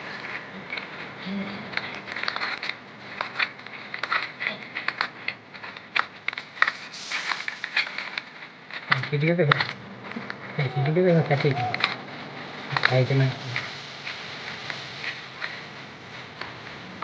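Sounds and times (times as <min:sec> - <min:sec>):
hands mixing greens in a bowl: 0:00.0 - 0:17.0.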